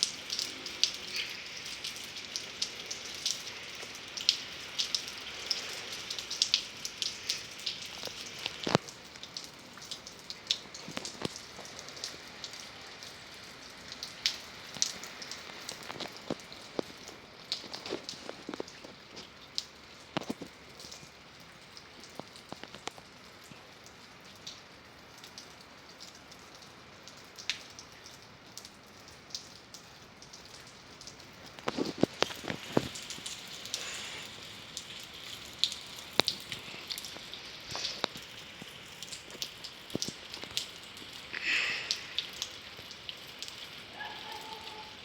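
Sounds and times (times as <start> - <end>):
rain drop taps: 0.0 - 45.0
rain on hard surface: 0.0 - 45.0.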